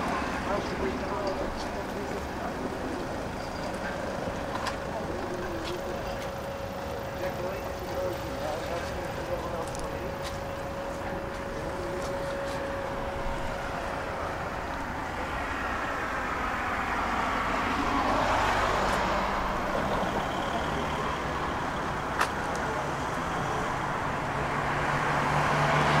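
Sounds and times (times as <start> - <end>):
tram running along track: 0.0 - 26.0.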